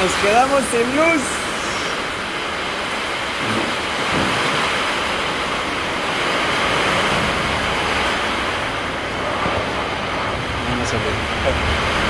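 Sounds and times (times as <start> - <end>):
roar of storm wind: 0.0 - 12.0.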